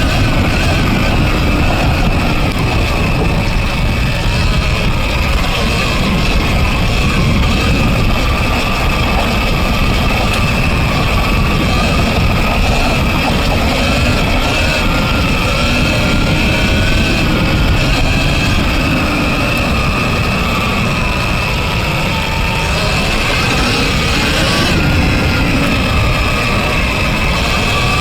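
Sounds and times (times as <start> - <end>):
electric motor whine: 0.0 - 28.0
low drivetrain rumble: 0.0 - 28.0
steady higher whine: 0.0 - 28.0.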